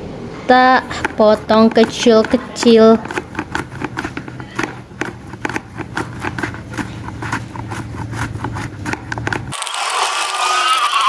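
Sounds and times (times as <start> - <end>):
banana scraping on mandoline: 0.5 - 9.6.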